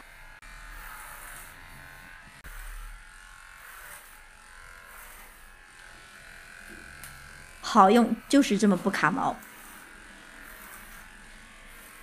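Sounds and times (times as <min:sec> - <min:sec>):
electric pet clipper buzzing: 0:00.0 - 0:12.0.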